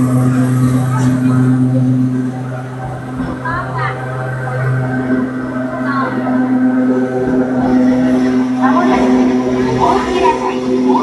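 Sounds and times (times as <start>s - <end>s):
electric train whining hum: 0.0s - 11.0s
passengers talking faintly: 0.0s - 11.0s.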